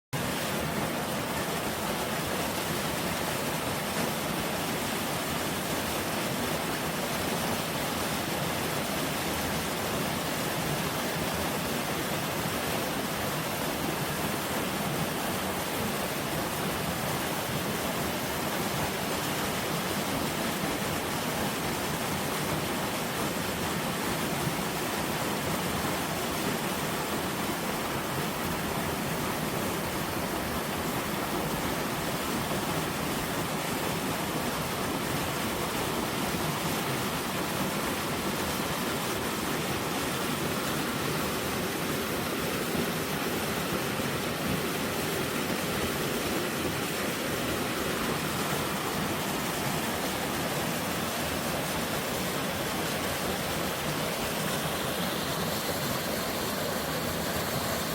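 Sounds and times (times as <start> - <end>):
mountain stream rushing: 0.2 - 57.9.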